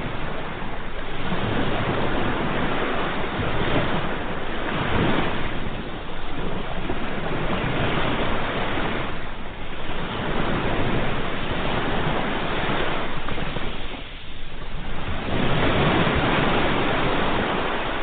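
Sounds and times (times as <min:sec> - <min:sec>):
ocean waves washing onto shore: 0:00.0 - 0:18.0.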